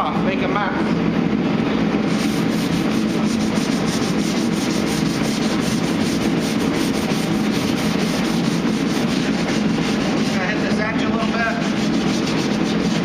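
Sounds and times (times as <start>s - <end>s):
sandpaper rubbing on filler: 2.0s - 13.0s.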